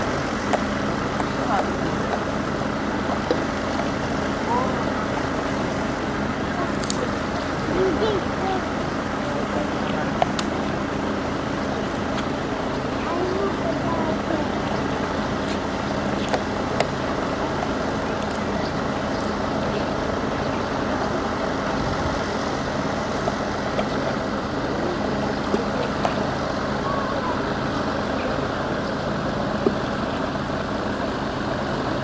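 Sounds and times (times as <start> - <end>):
engine rumble: 0.0 - 32.0.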